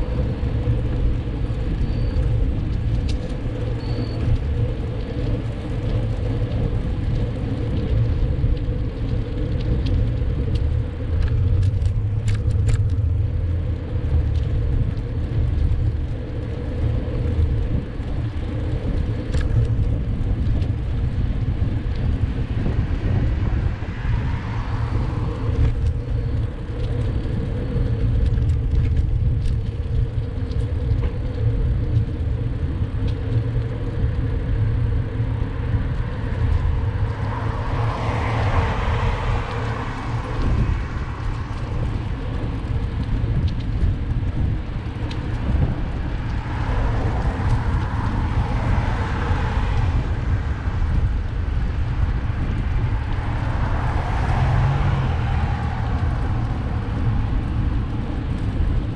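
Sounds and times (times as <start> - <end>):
traffic rumble: 0.0 - 58.9
vehicles passing: 0.0 - 58.9.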